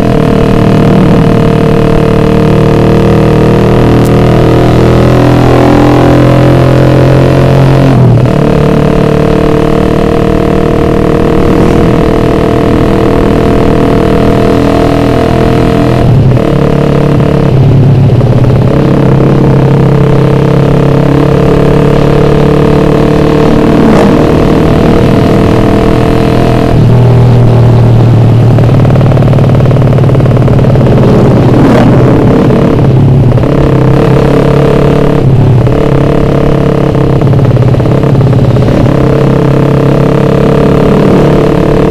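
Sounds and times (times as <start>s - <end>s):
motorcycle engine at speed: 0.0s - 41.9s.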